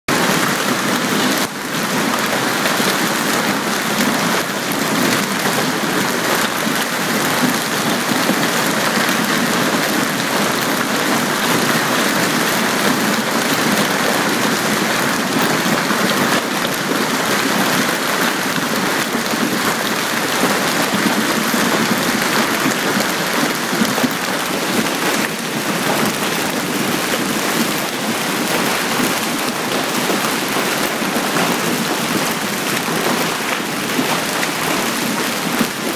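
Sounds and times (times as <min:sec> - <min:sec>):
hail and heavy rain pelting: 0:00.1 - 0:35.9.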